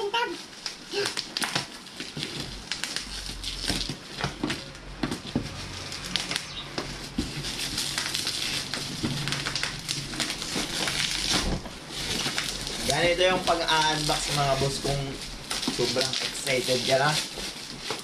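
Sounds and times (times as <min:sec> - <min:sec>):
bubble wrap crinkling: 0:00.0 - 0:18.0
box cutter cutting packaging: 0:00.7 - 0:18.0.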